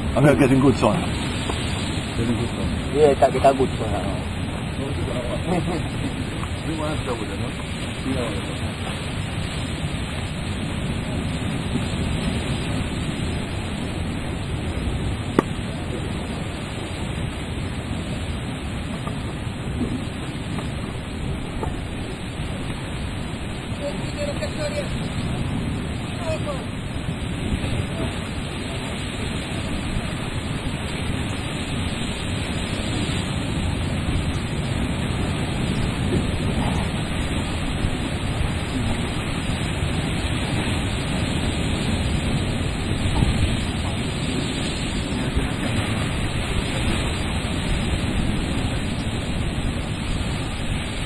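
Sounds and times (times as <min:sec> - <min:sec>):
surf breaking on rocky shore: 0:00.0 - 0:51.0
wind buffeting microphone: 0:00.0 - 0:51.0.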